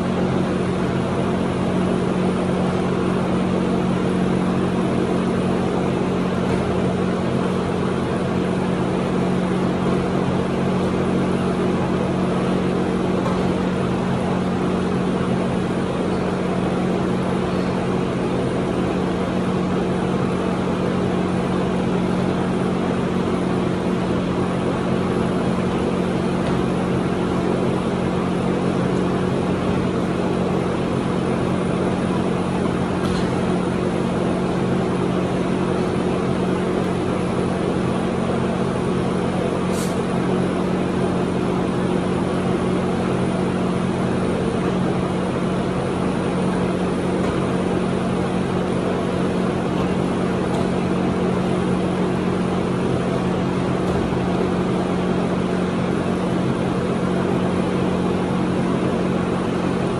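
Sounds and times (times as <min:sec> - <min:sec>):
machine drone with low hum: 0:00.0 - 0:59.9.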